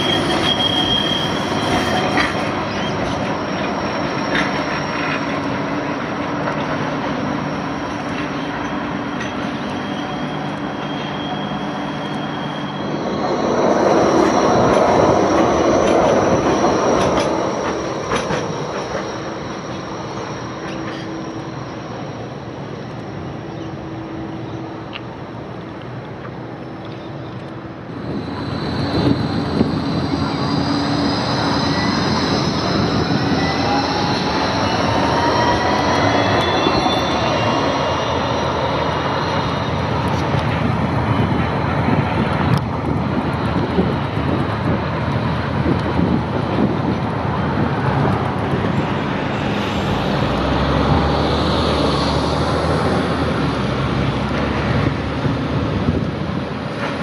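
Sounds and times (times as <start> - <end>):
tram running on tracks: 0.0 - 57.0.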